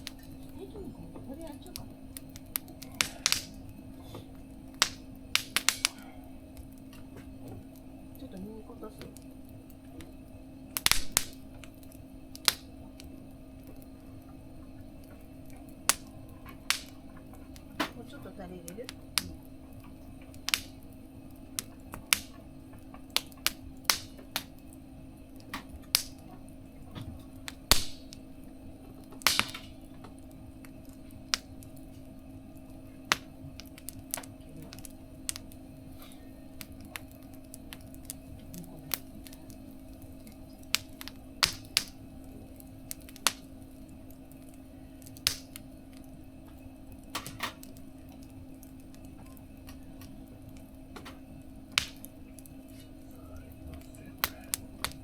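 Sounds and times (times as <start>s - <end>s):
sharp pops of fire: 0.0s - 55.0s
steady low hum: 0.0s - 55.0s
wood fire crackling: 0.0s - 55.0s.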